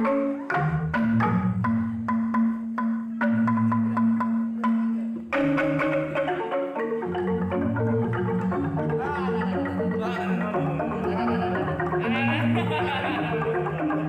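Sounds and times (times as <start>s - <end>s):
bamboo xylophones playing: 0.0s - 14.0s.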